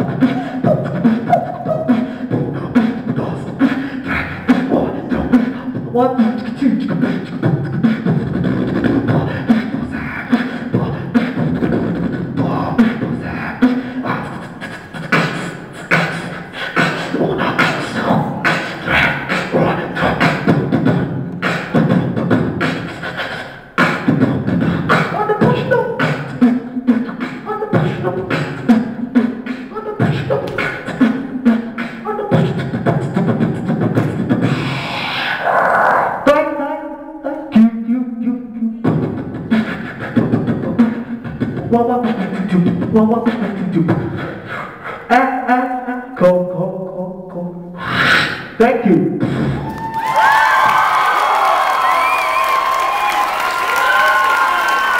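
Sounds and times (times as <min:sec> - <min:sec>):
beatboxing into a microphone: 0:00.0 - 0:54.9.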